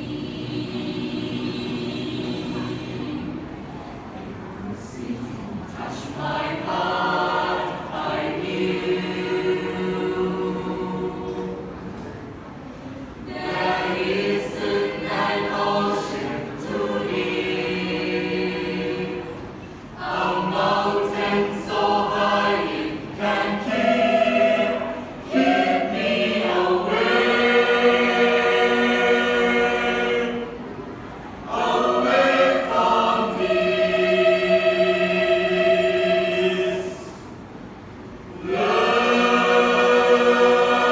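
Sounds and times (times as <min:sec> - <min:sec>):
choir singing in harmony: 0:00.0 - 0:03.9, 0:04.7 - 0:12.2, 0:13.1 - 0:40.9.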